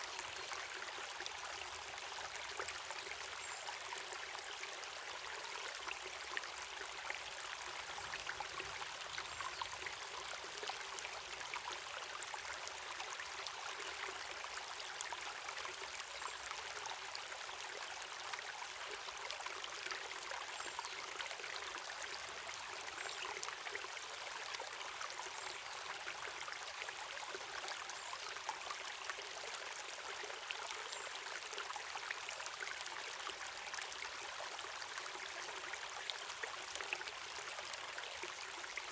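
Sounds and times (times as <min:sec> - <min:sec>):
stream over small waterfall: 0:00.0 - 0:38.9.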